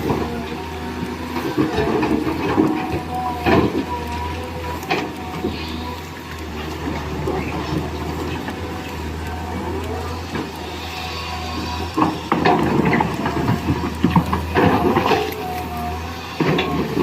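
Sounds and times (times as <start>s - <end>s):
toy excavator motor humming: 0.0s - 17.0s.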